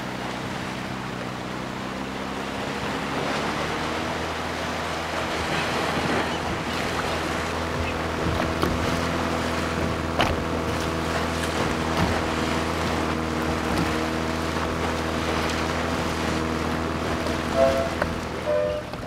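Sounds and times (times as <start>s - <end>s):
boat engine droning: 0.0s - 19.0s
sea wash: 0.0s - 19.0s.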